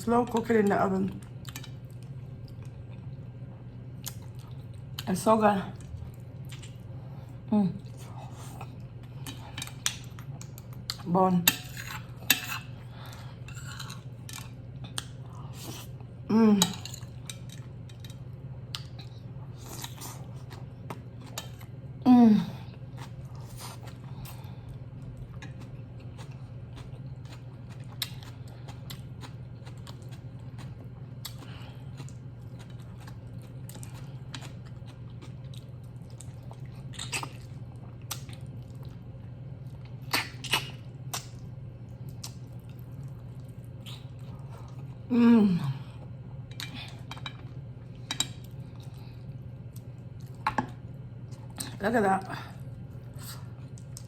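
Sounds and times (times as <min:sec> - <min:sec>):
steady low hum: 0:00.0 - 0:54.0
person chewing food: 0:01.2 - 0:05.1, 0:05.8 - 0:11.1, 0:11.9 - 0:21.8, 0:22.6 - 0:45.1, 0:45.8 - 0:51.7, 0:52.6 - 0:54.0.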